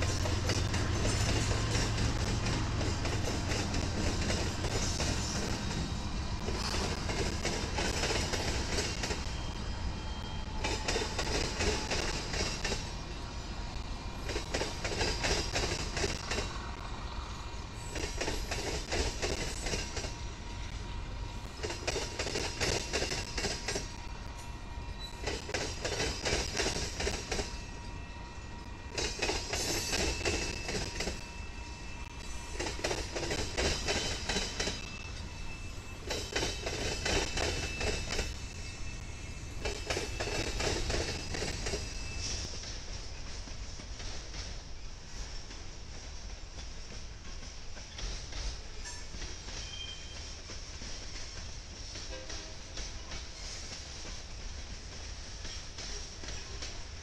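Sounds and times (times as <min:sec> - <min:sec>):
train wheels clattering: 0:00.0 - 0:13.1, 0:13.8 - 0:16.9, 0:17.8 - 0:20.2, 0:21.4 - 0:27.8, 0:28.7 - 0:57.0
locomotive rumble: 0:00.0 - 0:53.9.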